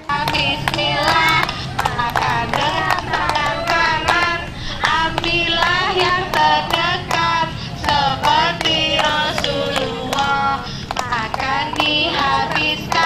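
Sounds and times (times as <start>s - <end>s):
children and women singing: 0.0s - 13.0s
hands clapping in rhythm: 0.0s - 13.0s.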